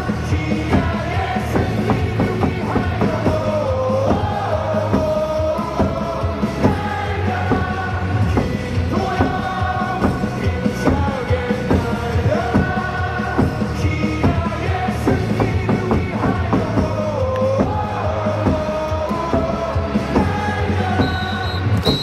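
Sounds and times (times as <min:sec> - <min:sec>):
crowd singing along: 0:00.0 - 0:22.0
loud amplified music: 0:00.0 - 0:22.0.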